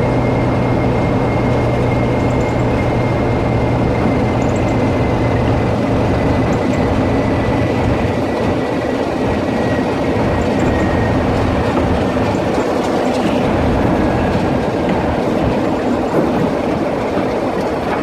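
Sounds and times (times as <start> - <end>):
low hum: 0.0 - 16.8
train wheels rolling on rails: 0.0 - 18.0.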